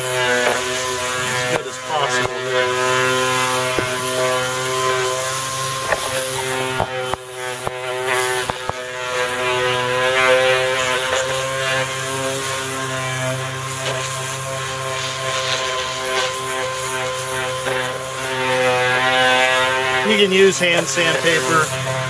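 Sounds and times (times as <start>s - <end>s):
orbital sander whine: 0.0s - 22.0s.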